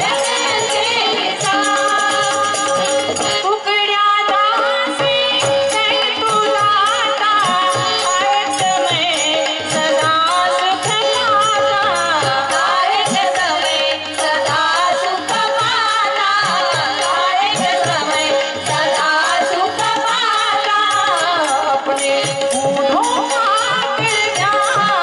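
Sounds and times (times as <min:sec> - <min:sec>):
tabla drumming: 0:00.0 - 0:25.0
women singing in a group: 0:00.0 - 0:25.0.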